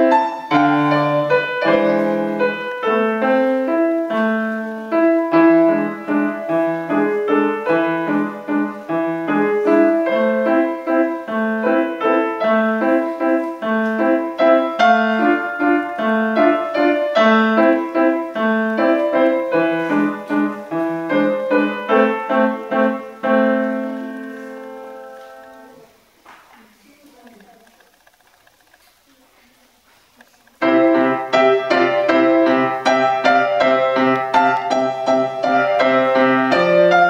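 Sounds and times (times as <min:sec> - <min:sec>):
solo grand piano: 0:00.0 - 0:26.2, 0:30.6 - 0:37.0.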